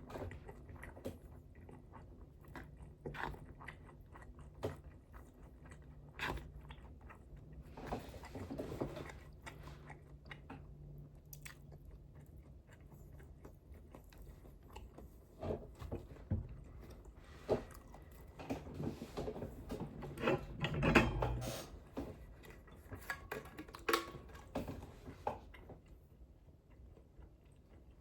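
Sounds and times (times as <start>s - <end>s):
chewing and biting food: 0.0s - 20.6s, 21.9s - 28.0s.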